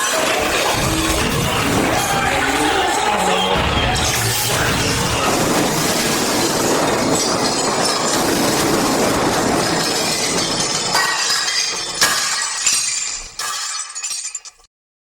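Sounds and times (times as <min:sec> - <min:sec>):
cartoon rattling din: 0:00.0 - 0:12.7
crashes with breaking glass: 0:00.0 - 0:14.7.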